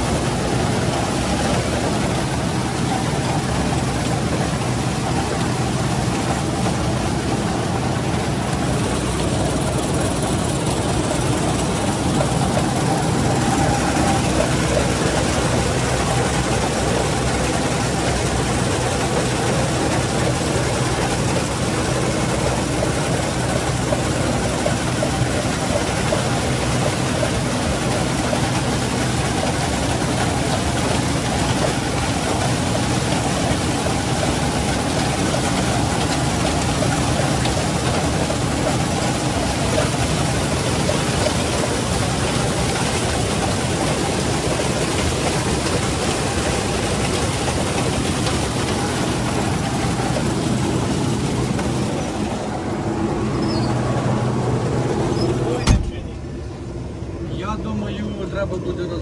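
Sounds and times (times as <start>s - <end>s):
combine harvester engine hum: 0.0s - 59.0s.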